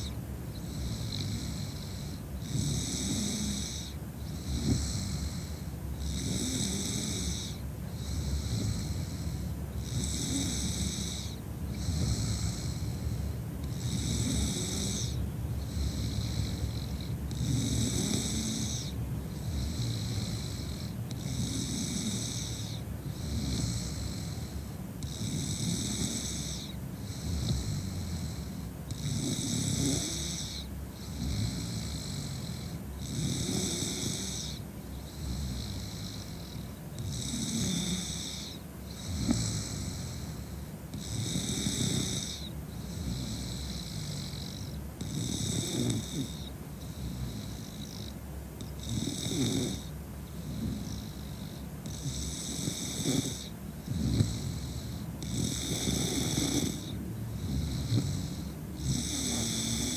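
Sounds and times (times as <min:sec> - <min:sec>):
woman snoring: 0:00.0 - 0:59.9.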